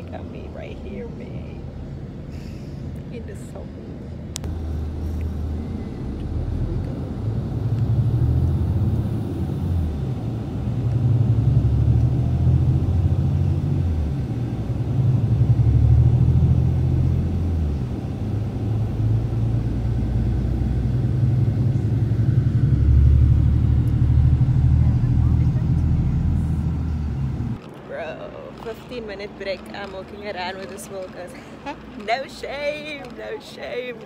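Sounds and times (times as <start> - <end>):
coach engine and road rumble: 0.0 - 34.0.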